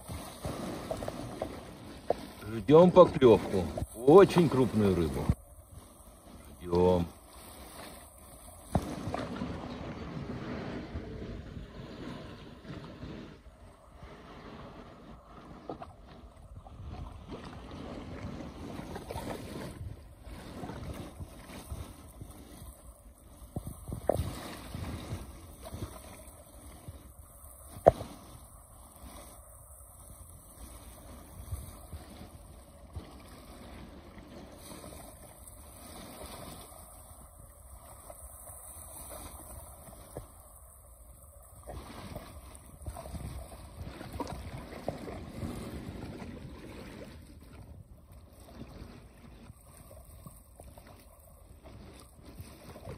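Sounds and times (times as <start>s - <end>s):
sea water splashing: 0.0s - 52.9s
small waves lapping against boat hull: 0.0s - 52.9s
wind rumble on microphone: 0.0s - 52.9s.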